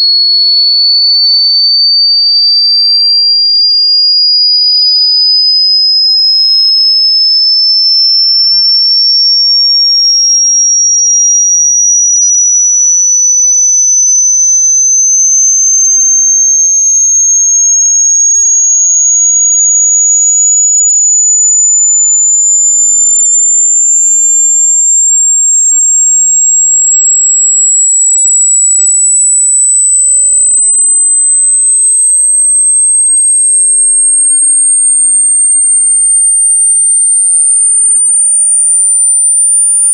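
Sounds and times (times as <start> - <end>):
piercing electronic tone rising: 6.4 - 39.9.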